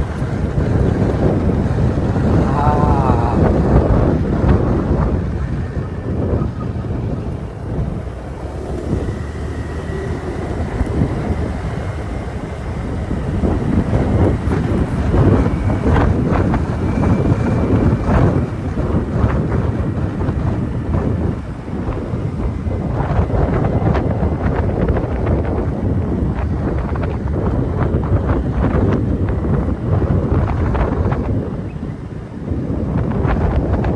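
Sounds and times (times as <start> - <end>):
motorbike rumble: 0.0 - 33.9
wind buffeting microphone: 0.0 - 33.9.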